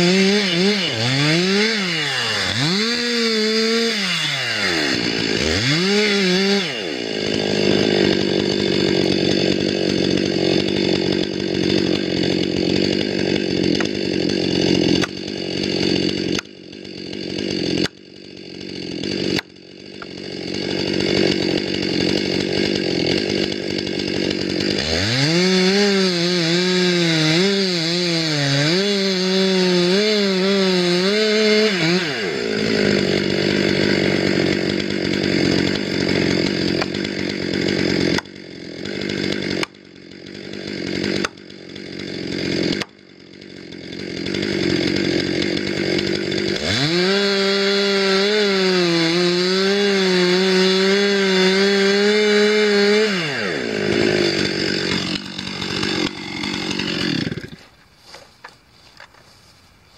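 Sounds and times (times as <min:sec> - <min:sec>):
engine-driven wood-cutting machine: 0:00.0 - 0:59.6.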